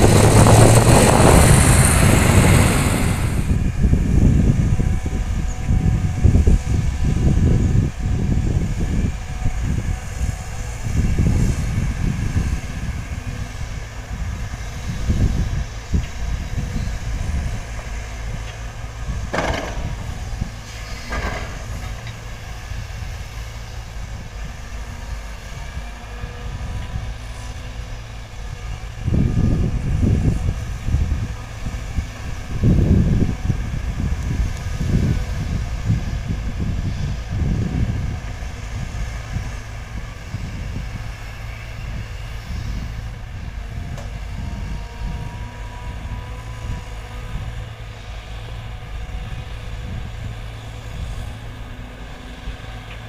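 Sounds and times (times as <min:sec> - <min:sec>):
excavator diesel engines: 0:00.0 - 0:53.0.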